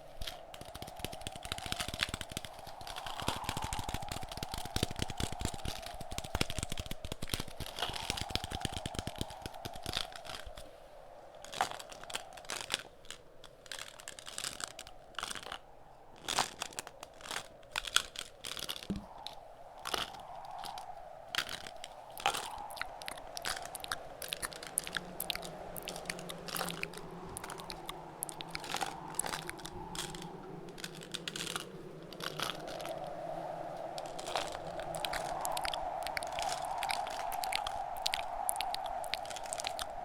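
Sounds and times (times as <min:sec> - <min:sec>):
steady wind: 0:00.0 - 0:40.0.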